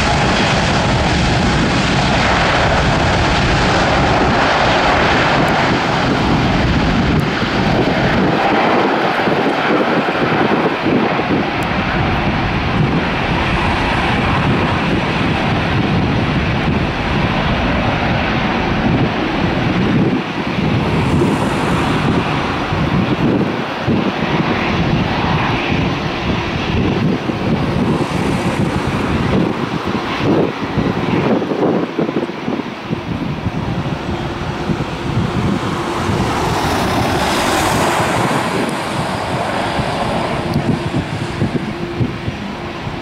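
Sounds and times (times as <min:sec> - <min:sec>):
jet engines roaring at takeoff: 0:00.0 - 0:43.0.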